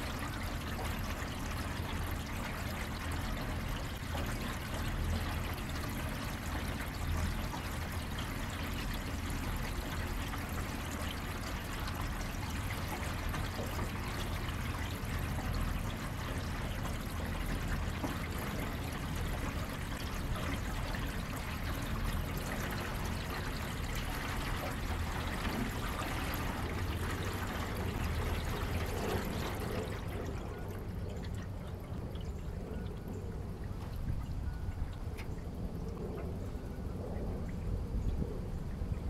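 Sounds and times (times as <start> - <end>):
water lapping against boat hull: 0.0 - 39.0.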